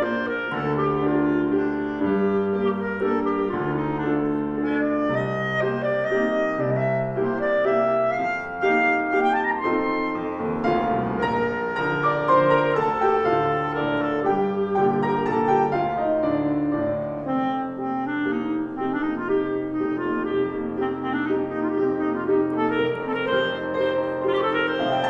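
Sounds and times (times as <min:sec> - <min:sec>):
clarinet melody: 0:00.0 - 0:25.0
piano accompaniment: 0:00.0 - 0:25.0.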